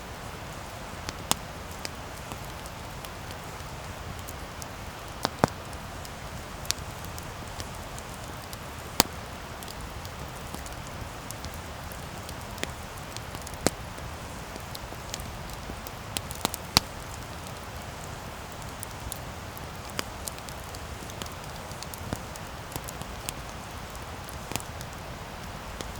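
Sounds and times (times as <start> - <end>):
campfire crackling and popping: 0.1 - 25.9.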